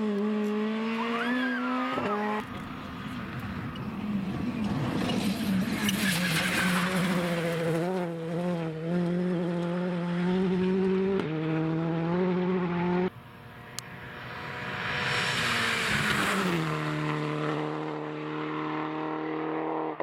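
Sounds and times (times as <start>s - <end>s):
gravel and tyre noise: 0.0s - 20.0s
rally car engine under throttle: 0.0s - 20.0s.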